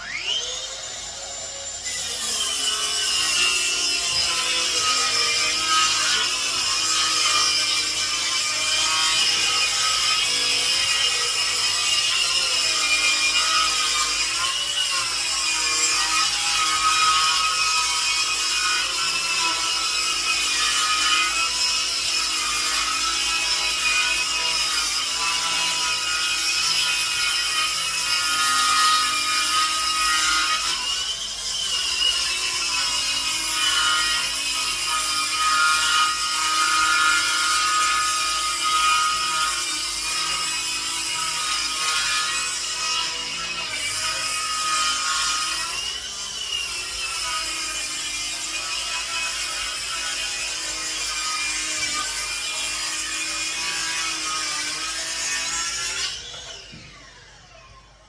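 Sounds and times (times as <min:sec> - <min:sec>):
saw cutting wood: 0:00.0 - 0:57.3.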